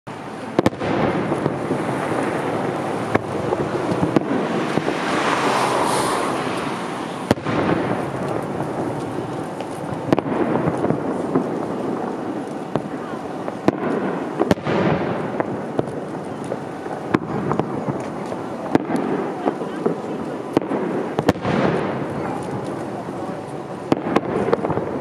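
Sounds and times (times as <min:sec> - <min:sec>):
dense fireworks crackle: 0:00.1 - 0:25.0.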